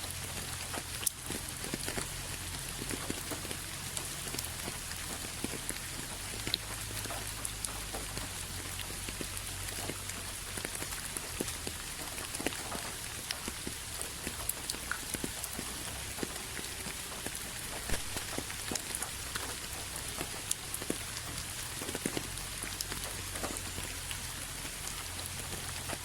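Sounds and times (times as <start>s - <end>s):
rain pattering on a surface: 0.0s - 26.0s.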